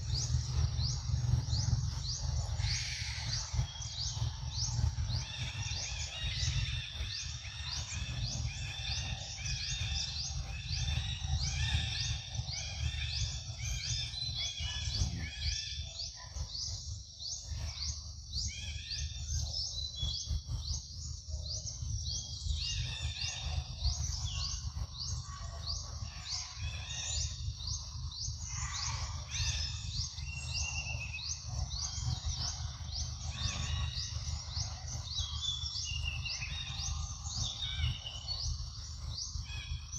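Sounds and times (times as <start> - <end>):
birds chirping: 0.0 - 39.9
constant low rumble: 0.0 - 39.9.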